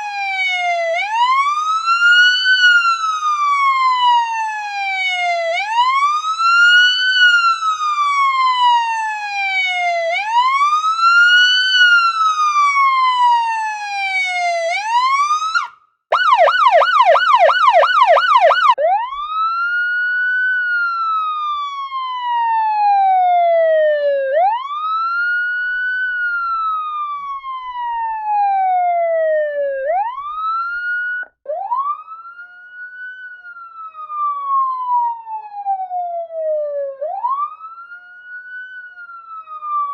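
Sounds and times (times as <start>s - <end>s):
police siren fast yelp: 0.0s - 39.9s
police siren wailing: 0.0s - 39.9s.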